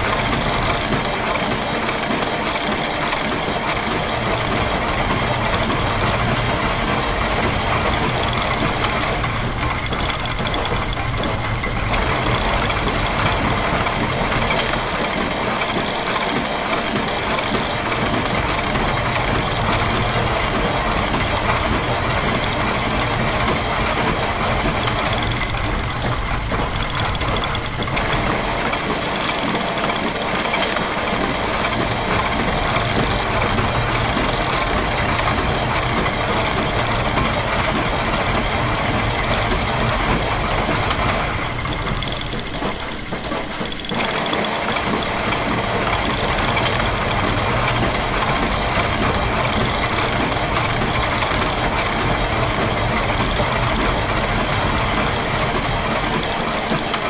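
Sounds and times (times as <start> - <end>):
factory machine clatter: 0.0 - 57.0
steady machine hum: 0.0 - 57.0.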